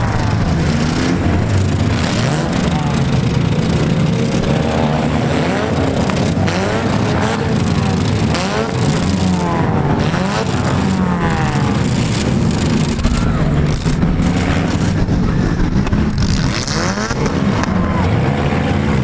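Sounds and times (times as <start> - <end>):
car engines revving: 0.0 - 19.0
steady rumble: 0.0 - 19.0.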